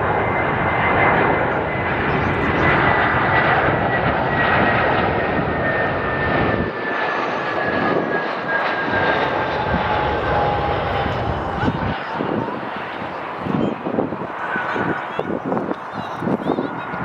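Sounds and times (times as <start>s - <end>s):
jet engines passing with whine: 0.0s - 17.0s.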